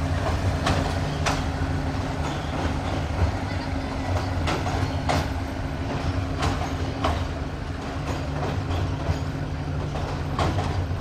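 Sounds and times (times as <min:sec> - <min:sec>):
low rumble of coaches on bridge: 0:00.0 - 0:11.0
wheel clacks over rail joint: 0:00.2 - 0:11.0.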